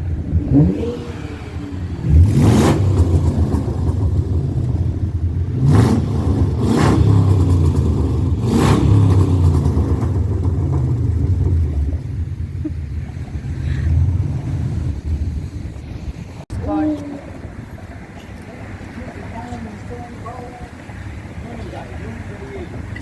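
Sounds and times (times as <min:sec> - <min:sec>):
car rumbling: 0:00.0 - 0:23.0
rushing swells: 0:00.0 - 0:23.0.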